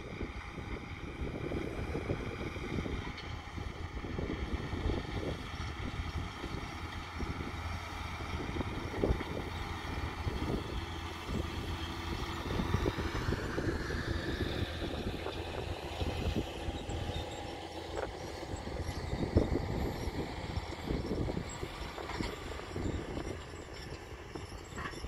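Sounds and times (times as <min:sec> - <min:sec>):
tractor engine running: 0:00.0 - 0:25.0
wind buffeting microphone: 0:00.0 - 0:25.0.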